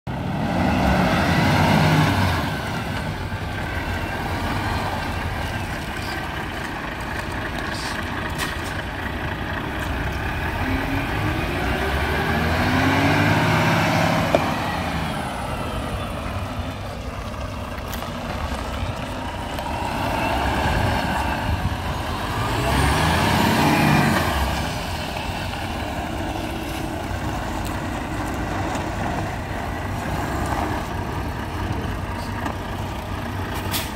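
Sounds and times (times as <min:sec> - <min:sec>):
diesel truck engine revving: 0:00.1 - 0:33.9.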